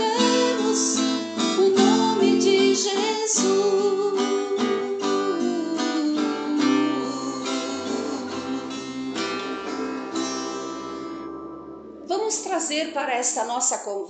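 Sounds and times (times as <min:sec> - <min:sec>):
acoustic guitar strumming chords: 0:00.0 - 0:13.1.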